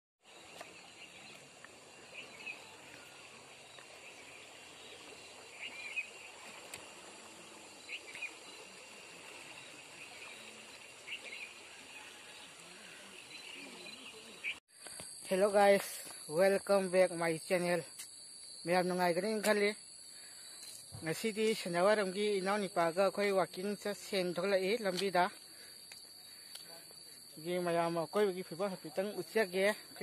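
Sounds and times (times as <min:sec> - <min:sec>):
high insect drone: 0:00.3 - 0:30.0.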